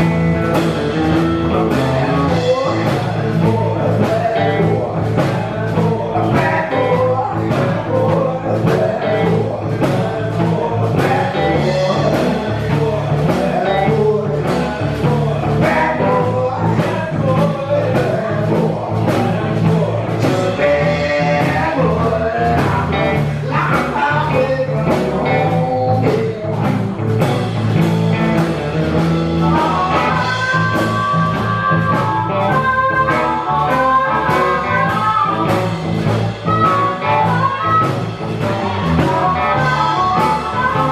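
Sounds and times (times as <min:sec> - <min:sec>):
live blues band playing: 0:00.0 - 0:40.9
person singing: 0:00.0 - 0:40.9
steady drum beat: 0:00.0 - 0:40.9.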